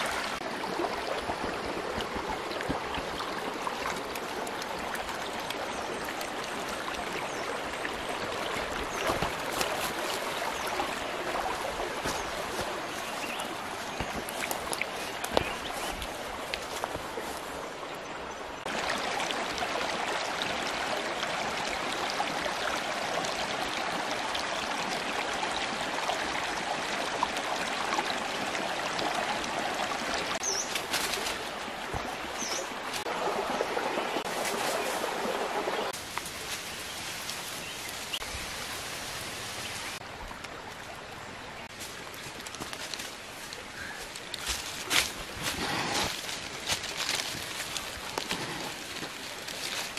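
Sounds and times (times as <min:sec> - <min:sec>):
creek water rushing over rocks: 0:00.0 - 0:49.9.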